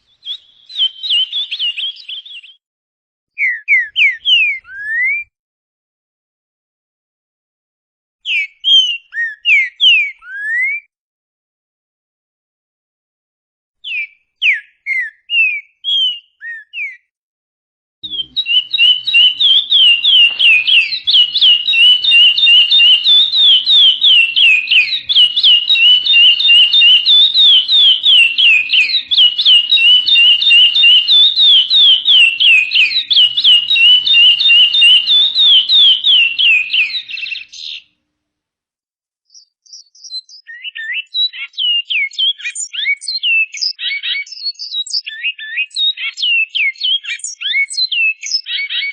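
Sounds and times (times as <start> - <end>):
scratchy bird song: 0.0 - 2.6, 3.4 - 5.1, 8.2 - 10.6, 13.8 - 17.0, 18.0 - 37.9, 39.3 - 48.9
songbird whistled notes: 0.0 - 2.6, 3.4 - 5.3, 8.3 - 10.9, 13.8 - 17.1, 18.0 - 37.8, 39.3 - 48.9.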